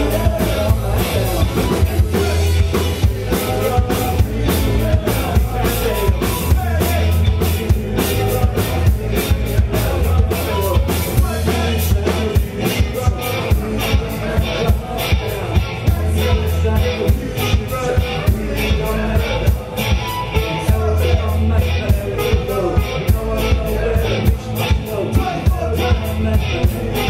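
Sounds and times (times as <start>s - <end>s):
bass guitar: 0.0s - 27.0s
drum kit: 0.0s - 27.0s
electric guitar: 0.0s - 27.0s
keyboard: 0.0s - 27.0s
person singing into microphone: 0.0s - 27.0s.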